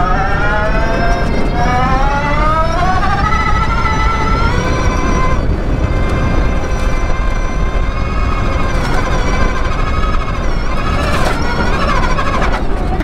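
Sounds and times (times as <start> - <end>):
dirt noise: 0.0 - 13.0
electric motor whining: 0.0 - 13.0
heavy wind noise: 0.0 - 13.0.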